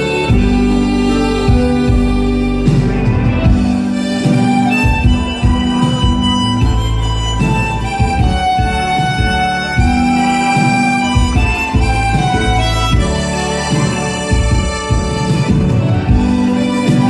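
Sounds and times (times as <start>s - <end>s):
harmonica melody: 0.0s - 17.0s
musical accompaniment with bass and beat: 0.0s - 17.0s.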